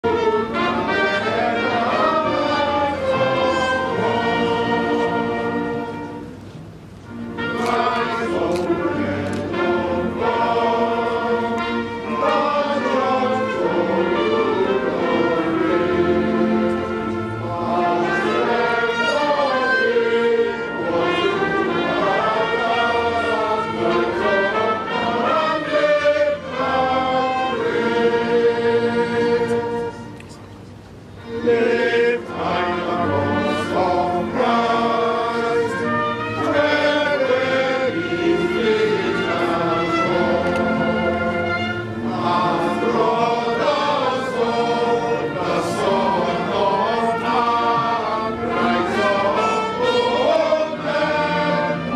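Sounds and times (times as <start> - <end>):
men singing a hymn: 0.5 - 5.6, 7.5 - 16.7, 17.4 - 29.9, 31.3 - 51.9.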